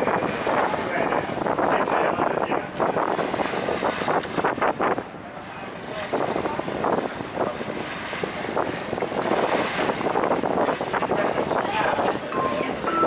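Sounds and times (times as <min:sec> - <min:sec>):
water washing along hull: 0:00.0 - 0:13.0
wind buffeting microphone: 0:00.0 - 0:13.0.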